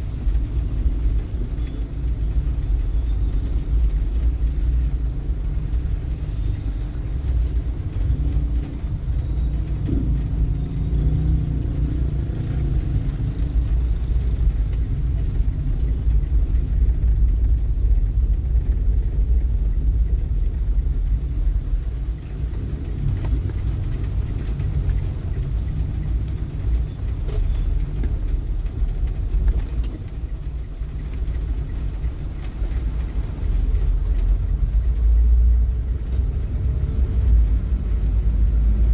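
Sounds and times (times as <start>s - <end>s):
vehicle rumble: 0.0s - 38.9s.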